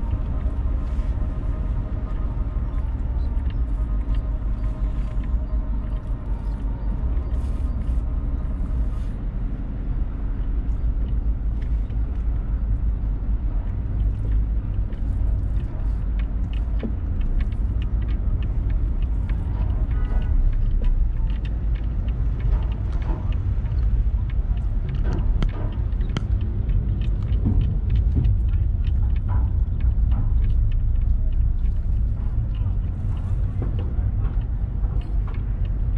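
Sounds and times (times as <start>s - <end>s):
car road and engine rumble: 0.0s - 35.9s
faint clicks and ticks: 0.0s - 35.9s.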